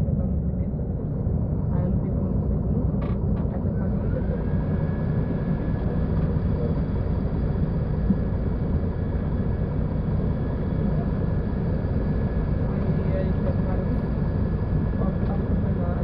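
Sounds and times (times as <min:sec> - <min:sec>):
bus engine running: 0:00.0 - 0:16.0
faint steady whine: 0:00.0 - 0:16.0.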